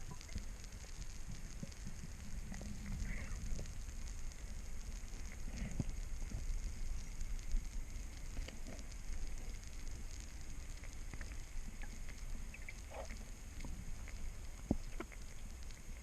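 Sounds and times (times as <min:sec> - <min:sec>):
clicks and crackles: 0:00.0 - 0:16.0
low underwater rumble: 0:00.0 - 0:16.0.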